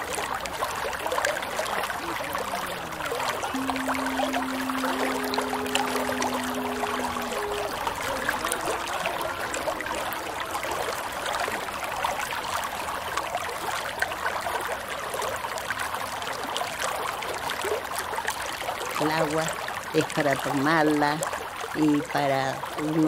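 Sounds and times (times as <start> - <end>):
water trickling and babbling: 0.0 - 23.0.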